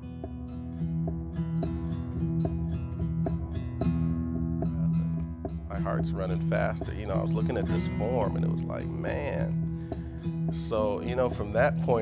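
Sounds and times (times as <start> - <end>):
guitar picking notes: 0.0 - 12.0
held low notes: 0.0 - 12.0.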